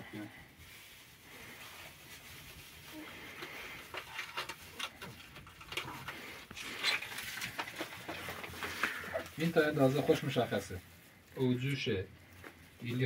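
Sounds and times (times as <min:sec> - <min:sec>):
plastic packet and gloves crinkling: 0:00.0 - 0:13.0.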